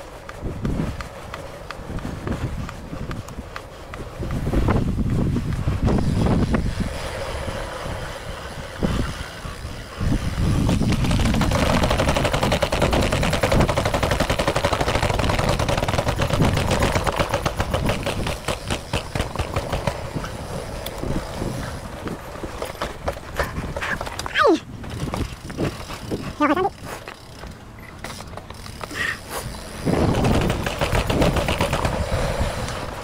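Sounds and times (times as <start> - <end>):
bike rattling over stones: 0.0 - 33.0
wind rumbling on microphone: 0.0 - 33.0.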